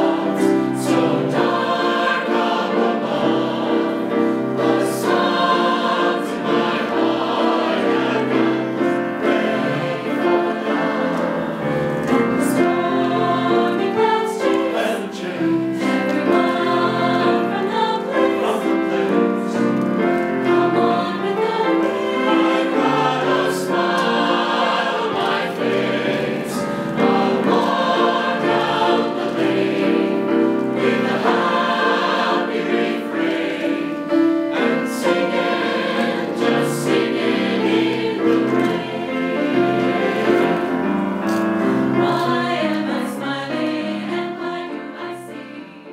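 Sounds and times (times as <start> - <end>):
mixed choir singing: 0.0 - 45.9.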